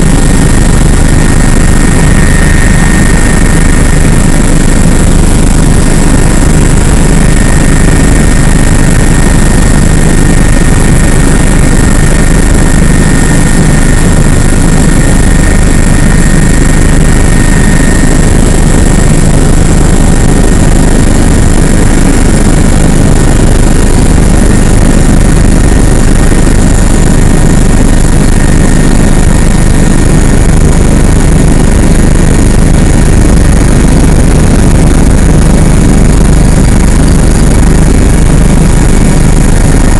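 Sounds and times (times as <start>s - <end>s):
helicopter rotor and engine: 0.0s - 39.9s
high whine: 0.0s - 39.9s.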